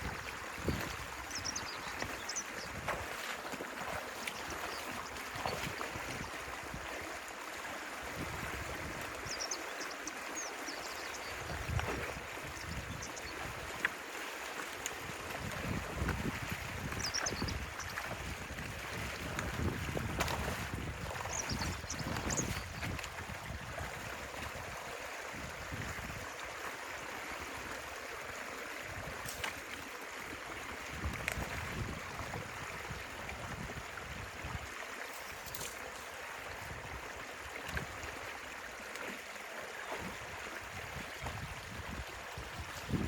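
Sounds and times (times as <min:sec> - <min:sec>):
stream water running: 0:00.0 - 0:43.0.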